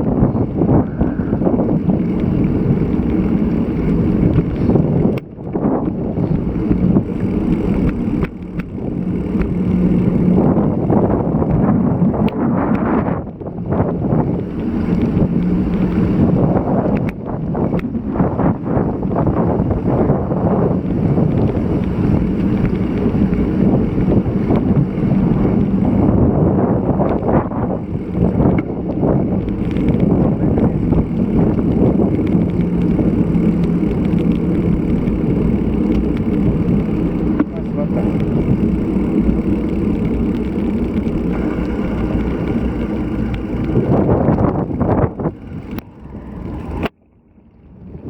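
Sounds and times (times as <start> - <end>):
small clicks: 0.0 - 17.9, 20.6 - 26.2, 26.9 - 46.9
wind buffeting microphone: 0.0 - 48.0.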